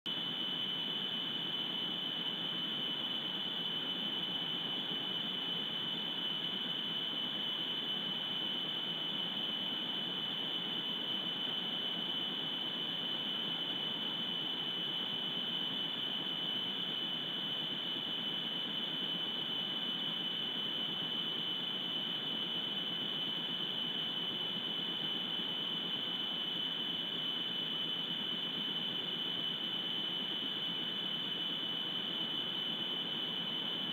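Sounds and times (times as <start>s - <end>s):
high-pitched electronic whine: 0.1s - 33.9s.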